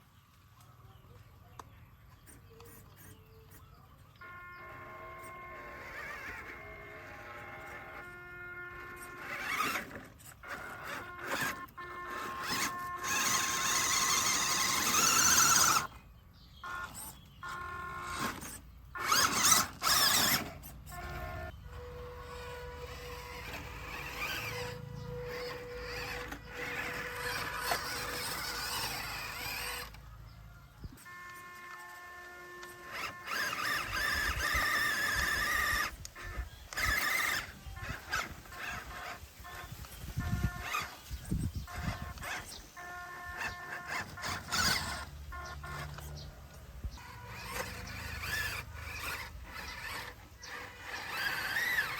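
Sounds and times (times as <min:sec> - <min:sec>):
small electric motor whining: 0:01.5 - 0:51.9.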